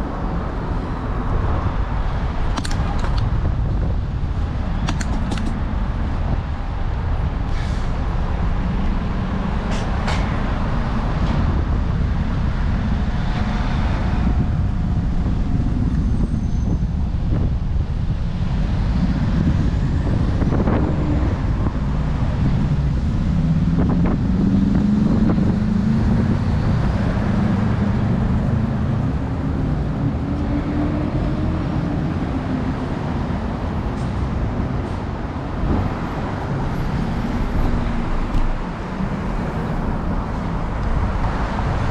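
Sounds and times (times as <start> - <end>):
heavy vehicle engine: 0.0 - 41.9
traffic rumble: 0.0 - 41.9.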